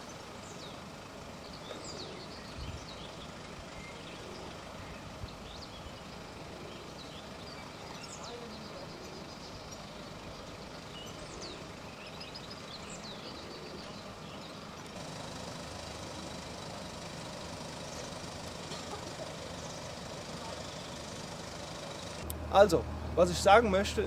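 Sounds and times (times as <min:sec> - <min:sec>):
bird chirps: 0:00.0 - 0:22.2
vehicle engine idling: 0:00.0 - 0:24.0.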